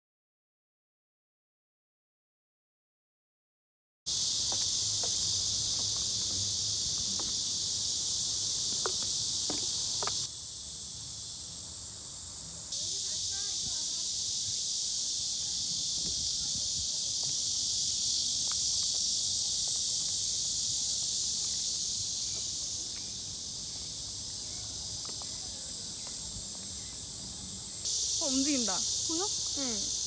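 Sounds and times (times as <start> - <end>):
insect chorus buzzing: 4.1 - 30.0.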